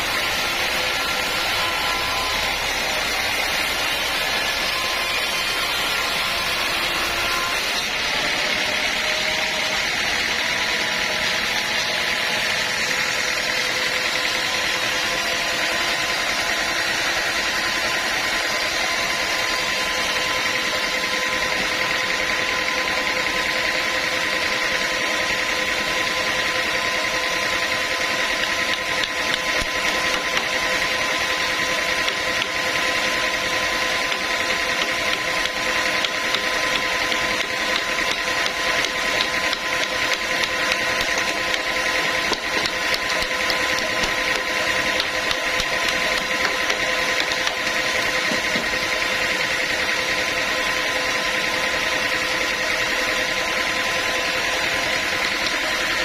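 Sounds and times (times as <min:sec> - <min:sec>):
sawmill machinery whine: 0:00.0 - 0:56.0.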